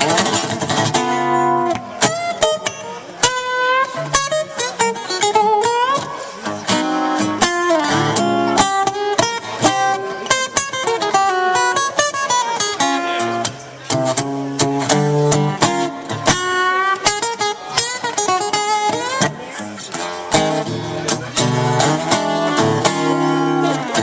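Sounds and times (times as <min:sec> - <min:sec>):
acoustic guitar picking and strumming: 0:00.0 - 0:24.0.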